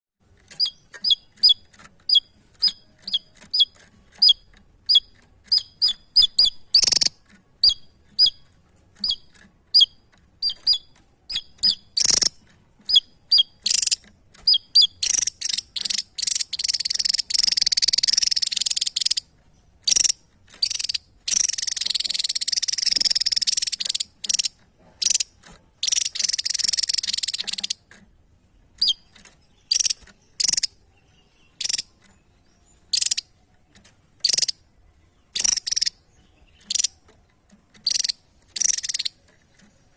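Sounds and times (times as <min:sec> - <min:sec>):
songbird chirping and trilling: 0:00.2 - 0:39.9.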